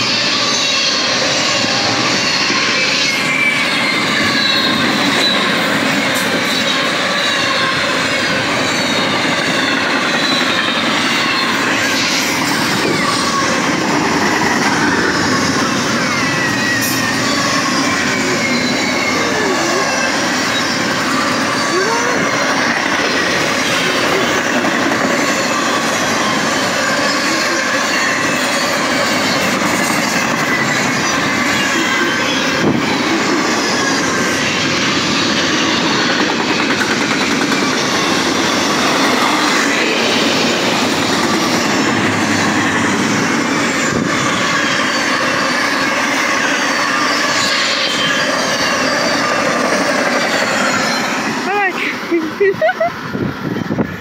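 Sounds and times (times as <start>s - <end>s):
high wheel squealing: 0.0s - 54.0s
train wheels rushing on rails: 0.0s - 54.0s.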